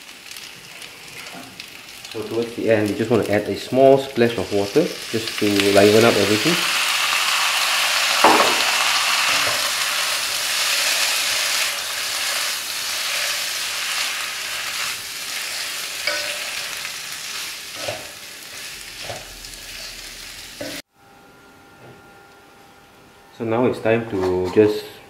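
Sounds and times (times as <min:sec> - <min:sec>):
food sizzling in wok: 0:00.0 - 0:20.9.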